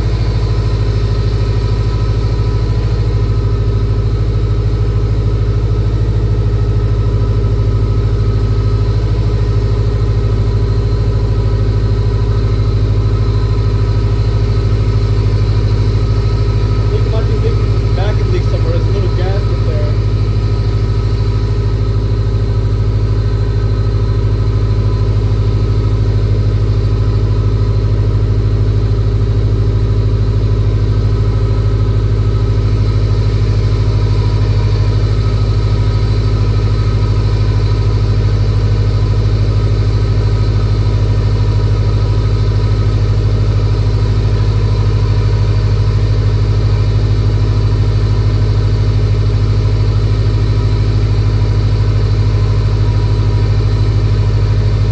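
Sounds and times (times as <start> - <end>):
car engine idling: 0.0 - 54.9.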